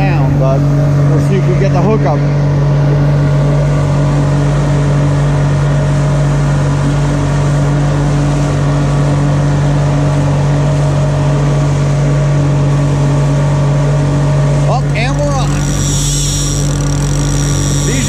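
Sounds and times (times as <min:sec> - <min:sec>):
outboard engine humming: 0:00.0 - 0:18.0.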